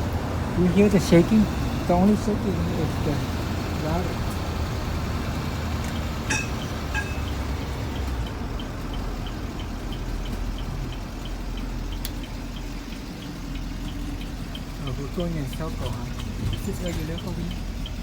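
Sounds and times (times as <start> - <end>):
bus body shaking and rattling: 0.0 - 18.0
bus engine and road rumble: 0.0 - 18.0
light ticking: 0.8 - 18.0.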